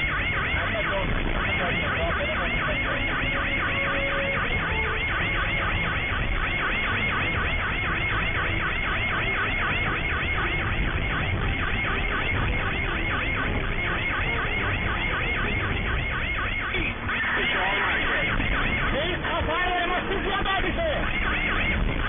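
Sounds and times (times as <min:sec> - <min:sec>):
engine and road noise: 0:00.0 - 0:22.0
police siren yelping: 0:00.0 - 0:22.0.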